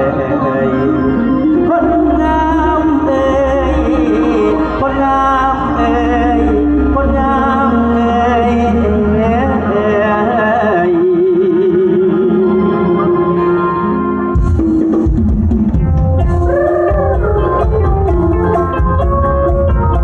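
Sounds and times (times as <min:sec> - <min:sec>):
folk music over loudspeakers: 0:00.0 - 0:20.0.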